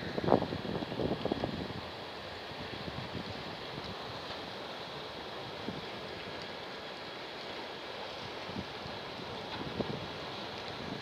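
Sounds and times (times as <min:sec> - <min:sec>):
steady wind: 0:00.0 - 0:11.0.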